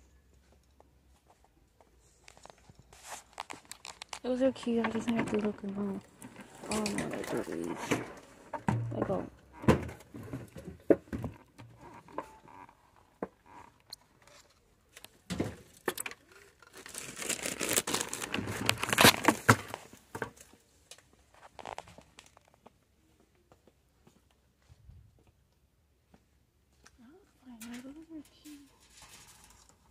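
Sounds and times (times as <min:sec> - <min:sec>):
rustling and crinkling handling: 0:00.3 - 0:22.8, 0:26.8 - 0:29.9.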